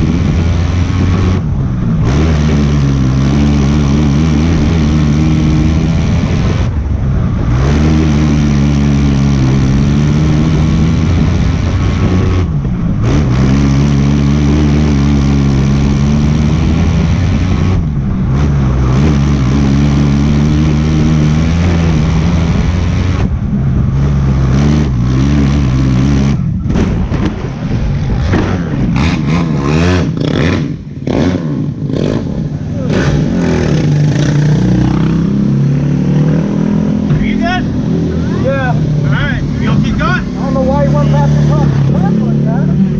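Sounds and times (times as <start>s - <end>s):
race car engine: 0.0s - 42.9s.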